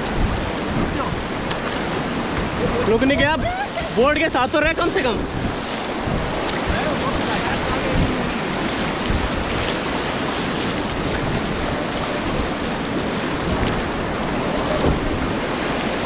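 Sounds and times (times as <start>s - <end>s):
rapids rushing and churning: 0.0s - 16.0s
wind buffeting microphone: 0.0s - 16.0s.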